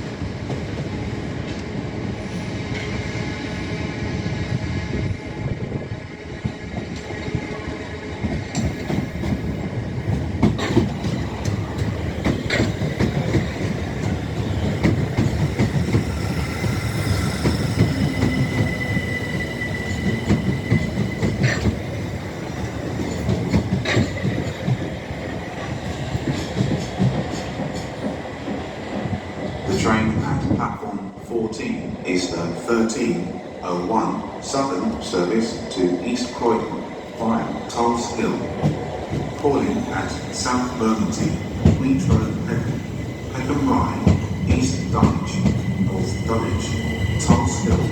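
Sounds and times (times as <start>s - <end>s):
train rumbling on track: 0.0s - 47.9s.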